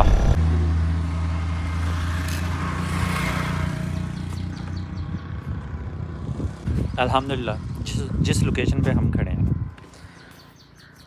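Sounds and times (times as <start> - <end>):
vehicle engine hum: 0.0 - 10.4.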